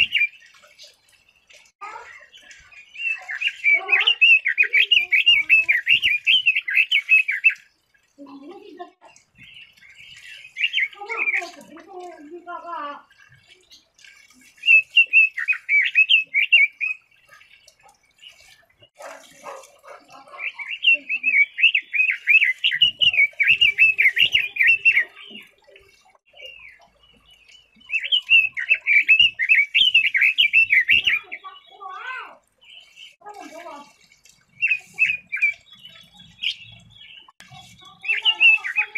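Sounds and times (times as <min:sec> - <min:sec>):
bird singing high warbling notes: 0:00.0 - 0:01.1, 0:01.8 - 0:08.8, 0:09.4 - 0:11.7, 0:14.6 - 0:18.8, 0:20.2 - 0:33.8, 0:34.5 - 0:38.9.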